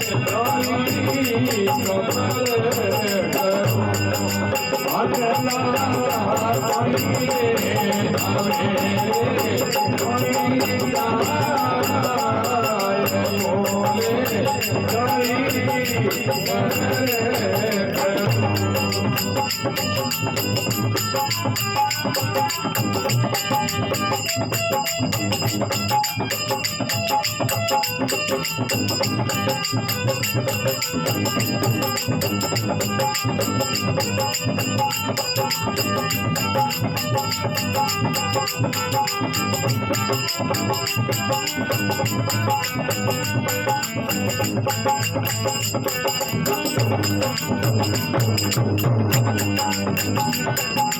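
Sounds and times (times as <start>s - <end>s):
fast jingling percussion: 0.0s - 50.9s
sustained instrumental melody: 7.1s - 50.9s.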